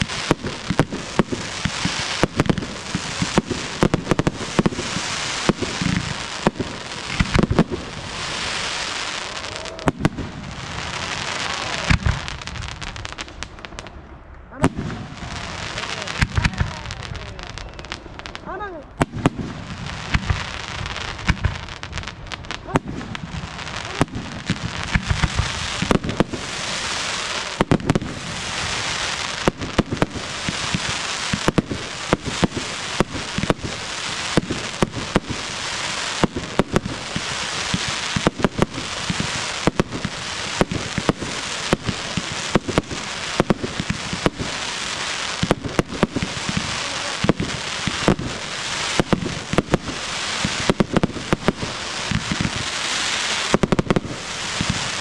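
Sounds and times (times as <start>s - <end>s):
crackling hiss: 0.0s - 55.0s
fireworks bursting bangs: 0.0s - 55.0s.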